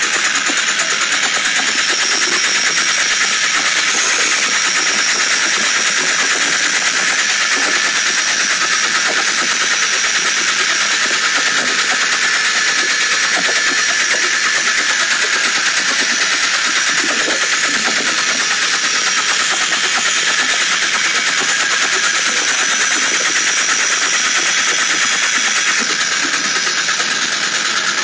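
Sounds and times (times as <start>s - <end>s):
car engine idling: 0.0s - 28.0s
fast metallic engine clatter: 0.0s - 28.0s.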